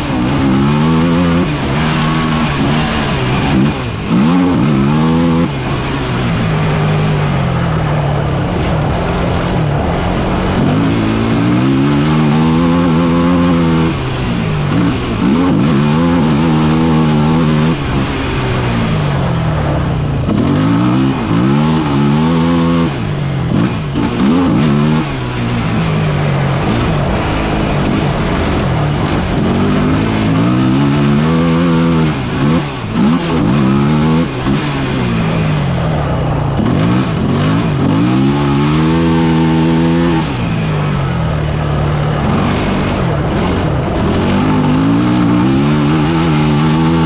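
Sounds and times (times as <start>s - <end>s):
vehicle engine revving: 0.0s - 47.0s
wind noise: 0.0s - 47.0s.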